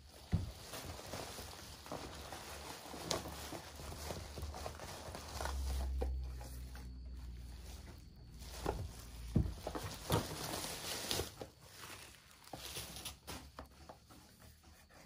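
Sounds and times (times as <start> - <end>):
plastic mailer crinkling: 0.0 - 14.1.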